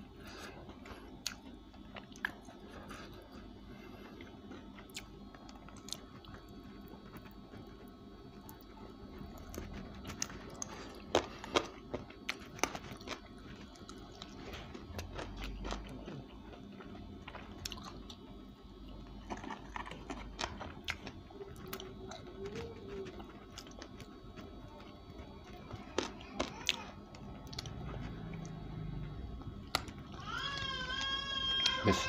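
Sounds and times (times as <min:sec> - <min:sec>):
person chewing crispy chicken: 0:00.1 - 0:32.0.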